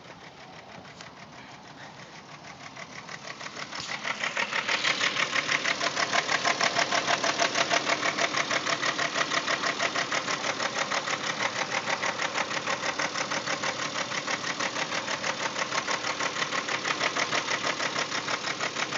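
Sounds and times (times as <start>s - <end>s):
car engine idling with ticking: 0.0s - 18.9s.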